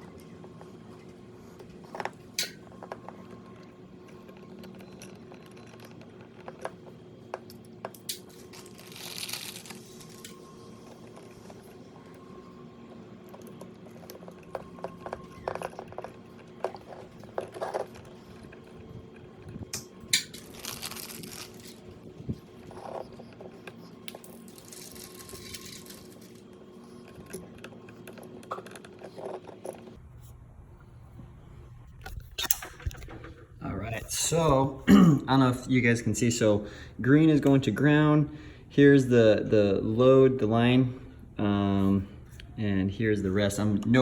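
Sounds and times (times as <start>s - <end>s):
faint hum: 0.0s - 44.0s.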